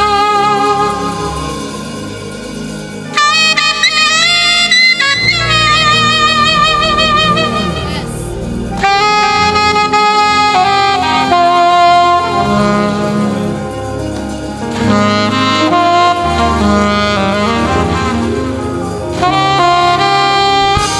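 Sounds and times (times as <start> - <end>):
low sustained band accompaniment: 0.0 - 20.9
saxophone melody with vibrato: 0.0 - 20.9.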